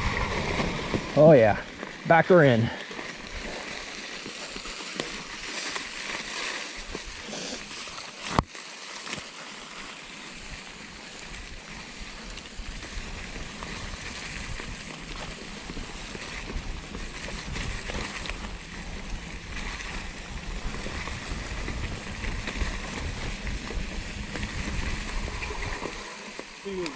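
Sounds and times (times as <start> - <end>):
creek water rushing: 0.0 - 26.9.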